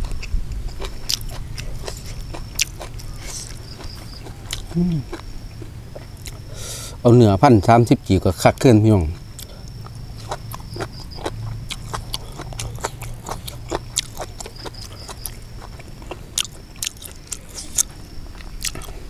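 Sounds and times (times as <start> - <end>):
person chewing wetly: 0.0 - 6.6, 9.2 - 19.0.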